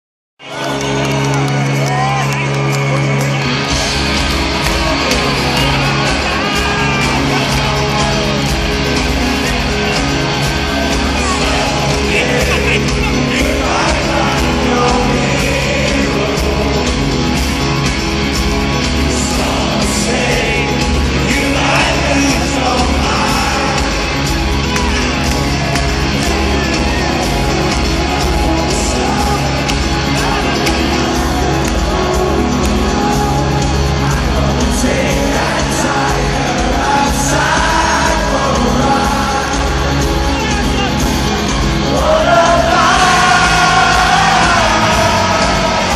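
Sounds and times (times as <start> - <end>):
crowd shouts and whoops: 0.4 - 45.9
live rock band music: 0.4 - 45.9.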